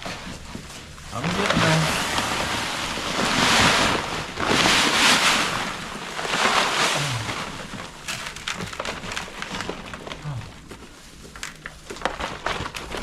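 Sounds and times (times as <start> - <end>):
paper sack crackling: 0.0 - 13.0
feed pouring from sacks: 1.1 - 13.0.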